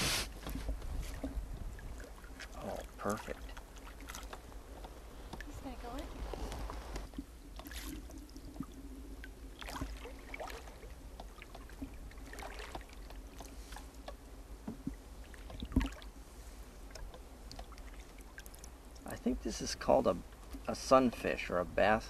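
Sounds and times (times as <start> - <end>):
water lapping against canoe: 0.0 - 21.6.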